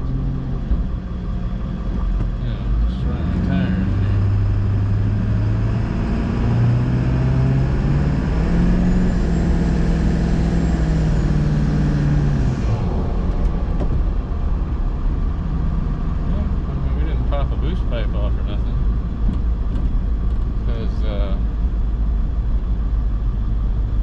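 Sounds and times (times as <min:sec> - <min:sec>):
diesel engine accelerating: 0:00.0 - 0:24.0.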